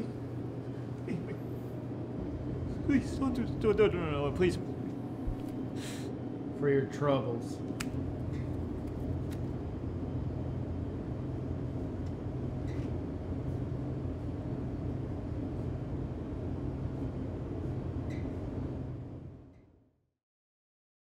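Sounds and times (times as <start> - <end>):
steady low rumble: 0.0 - 19.5.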